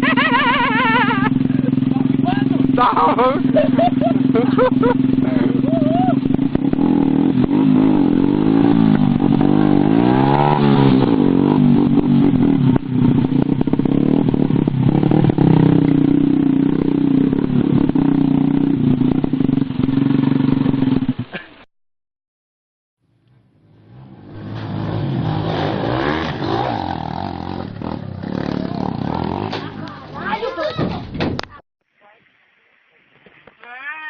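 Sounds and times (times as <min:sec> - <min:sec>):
motorcycle engines revving: 0:00.0 - 0:21.4, 0:23.1 - 0:30.4.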